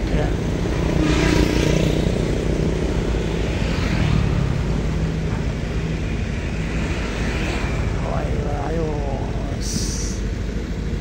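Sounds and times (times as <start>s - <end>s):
engines rumbling: 0.0s - 11.0s
vehicles passing: 0.0s - 11.0s.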